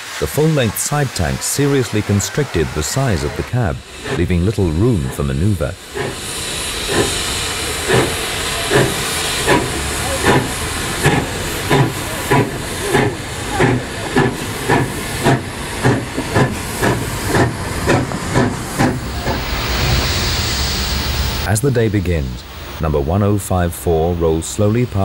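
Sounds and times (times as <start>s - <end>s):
steam hiss: 0.0s - 25.0s
steam locomotive exhaust chuffs: 0.0s - 25.0s.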